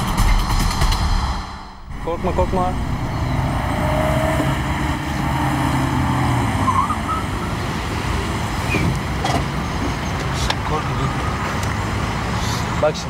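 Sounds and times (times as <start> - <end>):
city traffic car engines: 1.9 - 13.0.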